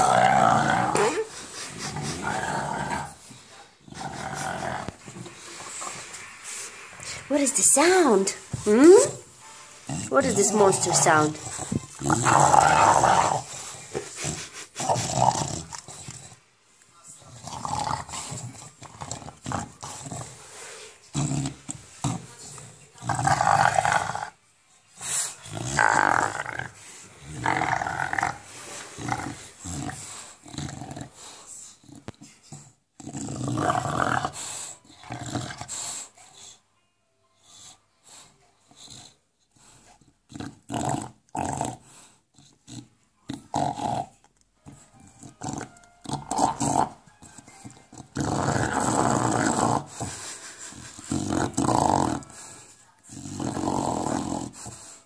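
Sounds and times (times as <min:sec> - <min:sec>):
dog growling: 0:00.0 - 0:06.1, 0:09.9 - 0:16.4, 0:17.3 - 0:24.4, 0:25.1 - 0:35.9, 0:40.3 - 0:44.3, 0:45.0 - 0:54.9.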